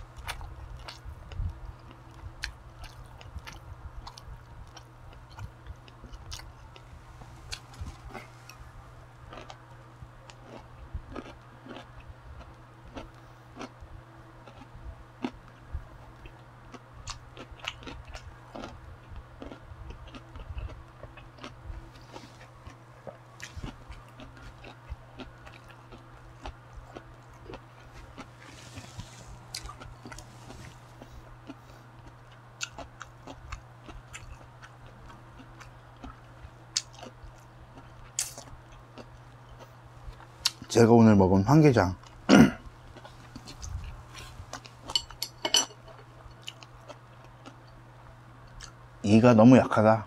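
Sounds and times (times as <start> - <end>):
low hum: 0.0 - 49.0
person chewing food: 0.2 - 40.7, 42.0 - 47.8, 48.4 - 48.8.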